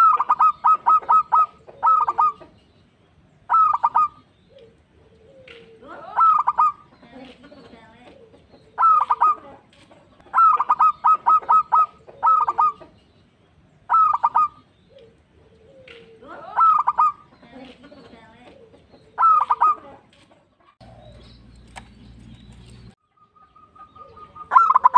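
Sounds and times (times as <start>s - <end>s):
dove cooing: 0.0s - 2.6s, 3.4s - 13.0s, 13.9s - 21.5s, 23.2s - 24.9s
soft bird calls: 0.0s - 24.9s.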